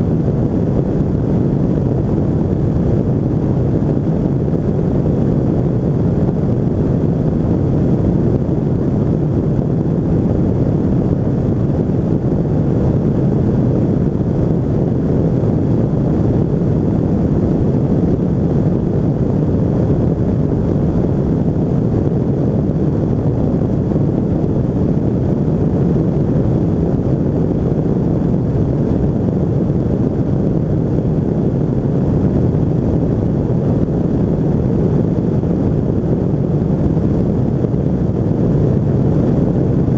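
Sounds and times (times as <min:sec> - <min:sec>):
microlight engine and propeller: 0:00.0 - 0:39.9
wind on microphone: 0:00.0 - 0:39.9.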